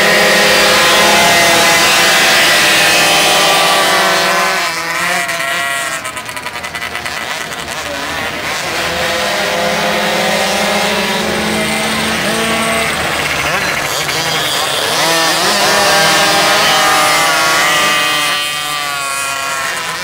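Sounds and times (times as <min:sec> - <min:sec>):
two-stroke engines buzzing: 0:00.0 - 0:20.0.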